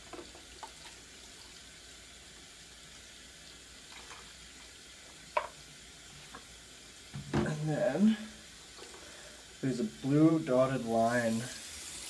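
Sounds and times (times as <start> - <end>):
faucet running into tub: 0.0 - 12.0.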